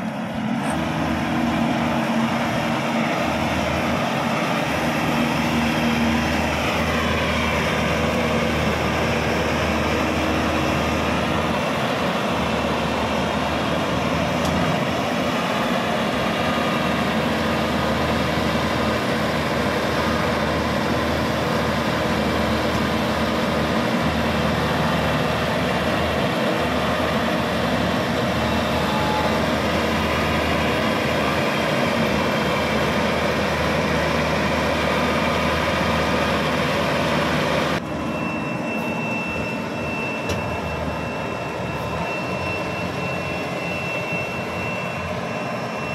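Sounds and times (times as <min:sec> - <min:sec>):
harvester engine running: 0:00.0 - 0:45.9.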